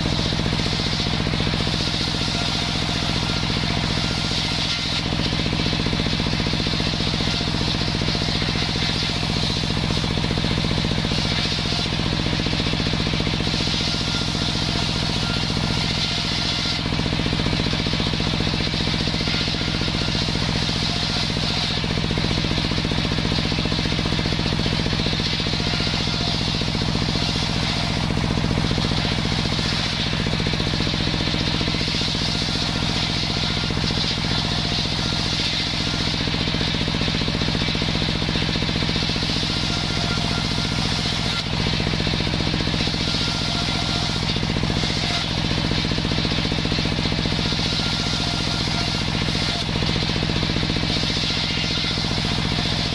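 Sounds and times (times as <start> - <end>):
circular saw cutting wood: 0.0 - 52.9.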